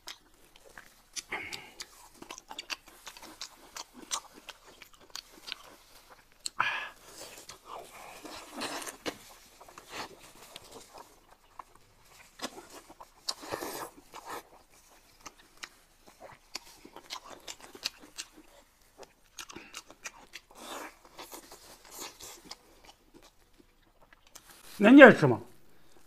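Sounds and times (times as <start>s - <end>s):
meat crunching when bitten: 0.0s - 24.5s
chewing and lip smacking: 0.0s - 24.6s.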